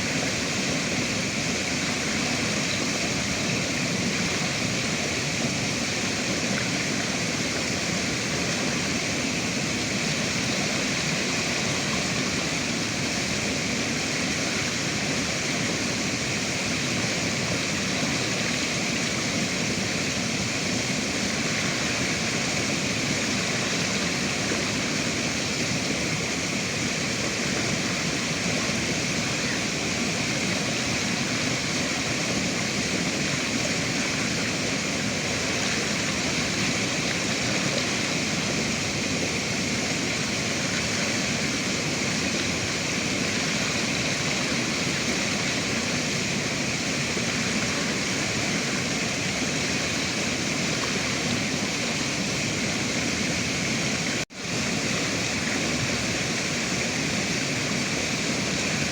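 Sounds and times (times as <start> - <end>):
rushing river water: 0.0 - 58.9.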